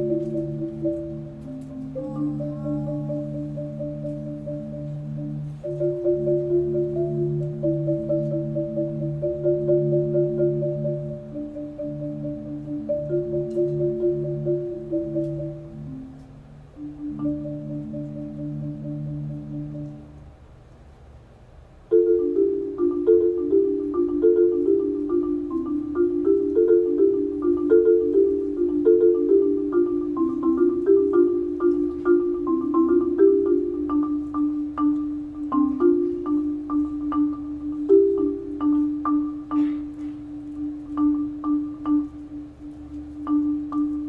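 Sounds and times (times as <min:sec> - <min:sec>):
marimba playing fast notes: 0:00.0 - 0:20.2, 0:21.9 - 0:44.0.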